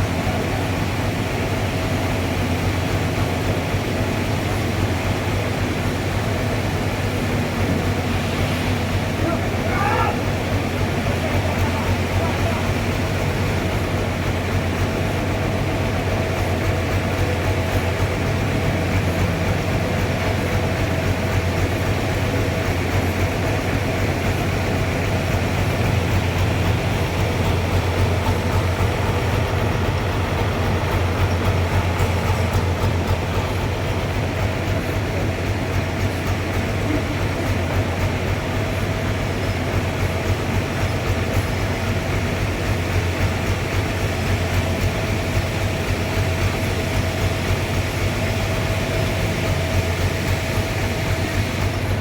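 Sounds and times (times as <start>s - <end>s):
faint steady machine whine: 0.0s - 52.0s
sawmill machinery droning: 0.0s - 52.0s.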